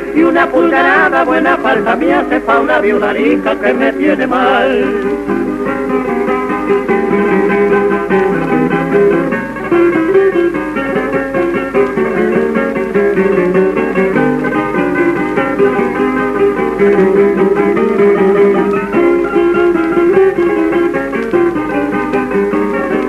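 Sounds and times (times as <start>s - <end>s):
acoustic guitars playing: 0.0s - 23.0s.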